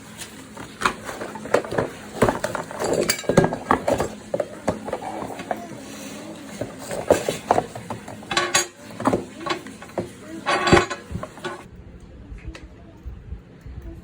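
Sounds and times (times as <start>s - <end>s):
angle grinder parts clicking: 0.2s - 11.7s.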